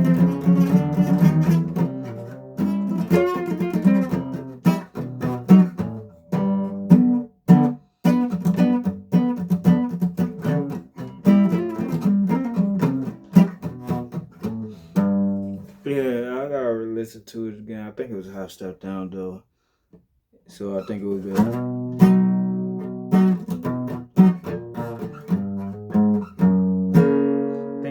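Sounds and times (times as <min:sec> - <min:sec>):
acoustic guitar strumming: 0:00.0 - 0:16.2, 0:20.8 - 0:27.9.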